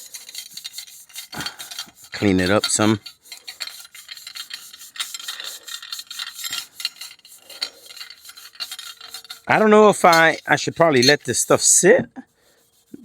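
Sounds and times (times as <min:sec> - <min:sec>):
pad scratching on metal: 0:00.0 - 0:13.0.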